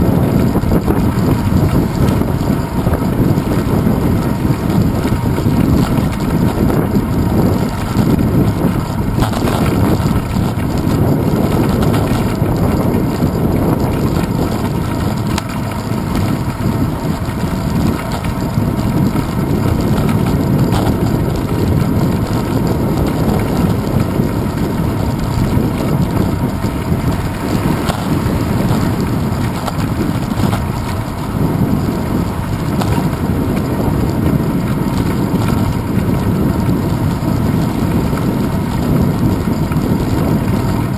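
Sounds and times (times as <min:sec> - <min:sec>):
bike rolling over paving: 0:00.0 - 0:40.9
wind buffeting microphone: 0:00.0 - 0:40.9.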